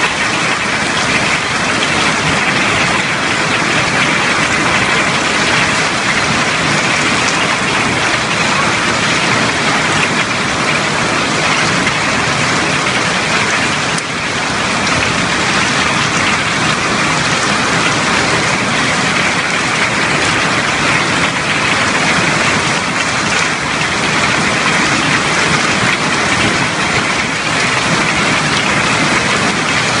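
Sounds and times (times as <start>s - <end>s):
hail and rain falling hard: 0.0s - 30.0s.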